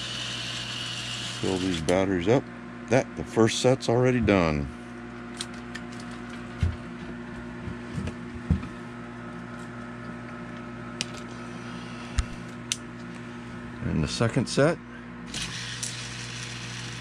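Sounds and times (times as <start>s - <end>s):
electric pump humming: 0.0s - 17.0s.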